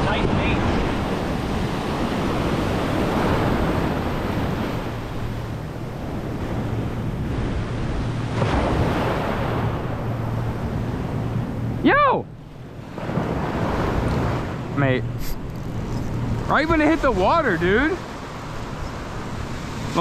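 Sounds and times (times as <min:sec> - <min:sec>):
small waves breaking on sand: 0:00.0 - 0:20.0.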